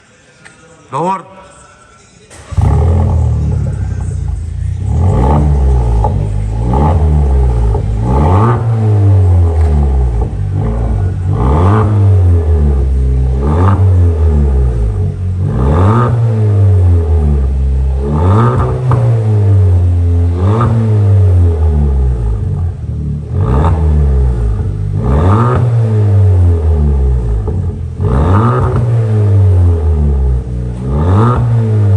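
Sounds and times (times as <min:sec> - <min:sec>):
car engine revving: 0:02.3 - 0:31.9.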